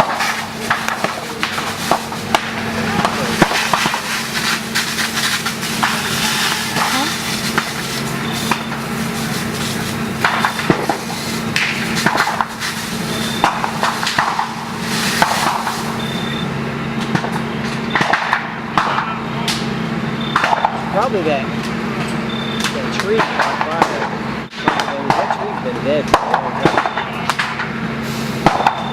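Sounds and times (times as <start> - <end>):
bamboo popping and crackling: 0.0 - 16.3, 17.0 - 19.7, 20.3 - 20.9, 21.6 - 27.8, 28.4 - 28.9
steady low hum: 0.0 - 28.5.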